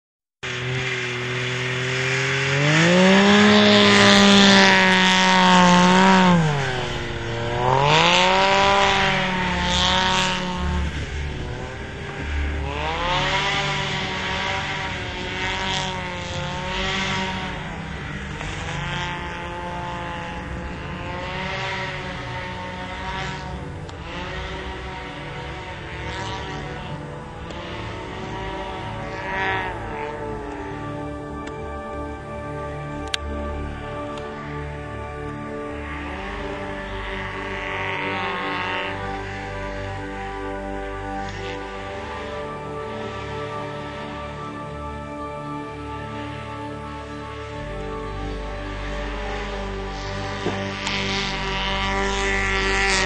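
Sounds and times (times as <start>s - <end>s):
snowmobile engine revving: 0.4s - 53.0s.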